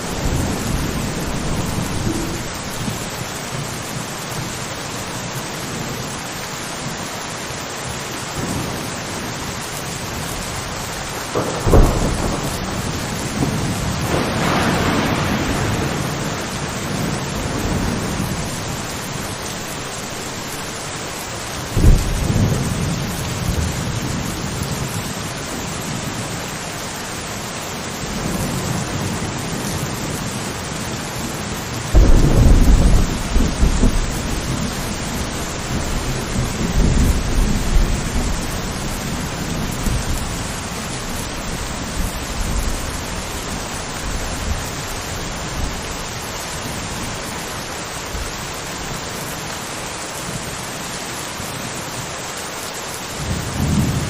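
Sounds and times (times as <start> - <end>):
thunder rumbling: 0.0 - 6.0, 8.3 - 20.1, 21.6 - 26.5, 27.8 - 48.4, 53.2 - 54.0
steady rain: 0.0 - 54.0.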